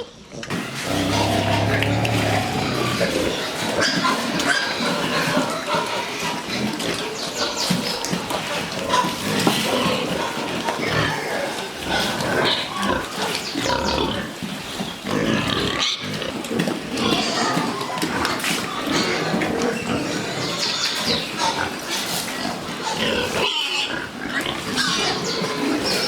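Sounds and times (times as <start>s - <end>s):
pigs grunting and calling: 0.0s - 26.0s.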